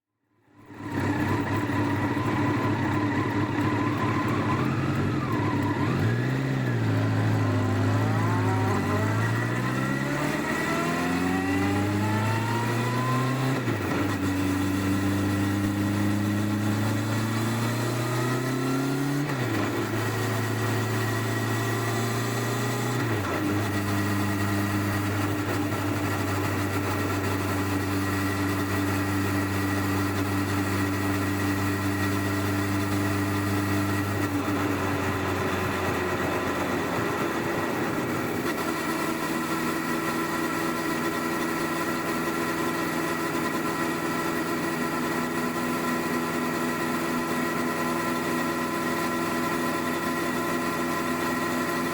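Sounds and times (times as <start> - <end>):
motorcycle engine accelerating: 0.6 - 51.9.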